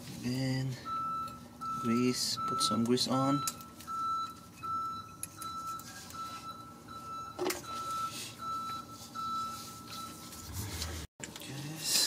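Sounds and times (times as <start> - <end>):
reversing alarm beeping: 0.8 - 11.0.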